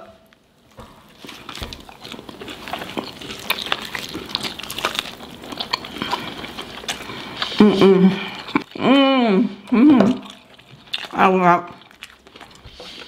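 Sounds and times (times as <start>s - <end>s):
people chewing meat: 0.2s - 13.0s.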